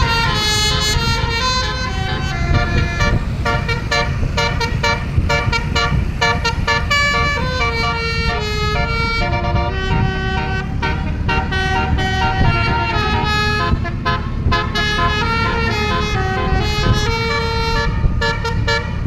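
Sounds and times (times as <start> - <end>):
bus air horn playing melody: 0.0 - 19.0
bus engine rumble: 0.0 - 19.0.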